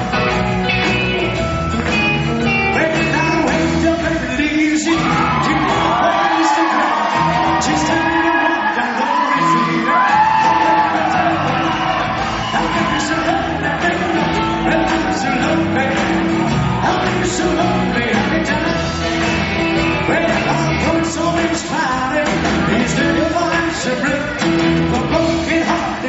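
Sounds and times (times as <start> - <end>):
live band playing rock and roll: 0.0 - 26.0.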